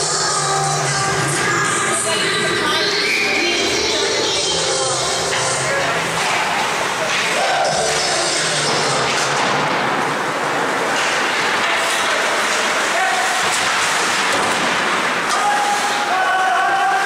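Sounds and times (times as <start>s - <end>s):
faint voices: 0.0s - 17.0s
skates scraping ice: 3.0s - 17.0s.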